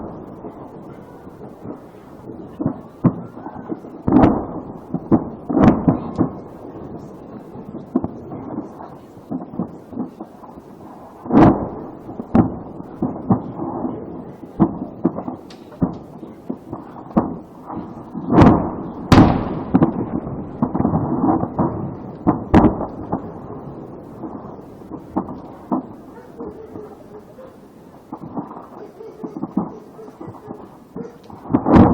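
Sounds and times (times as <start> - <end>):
explosions and sharp cracks: 0.0 - 31.9
heavy blasts: 0.0 - 31.9.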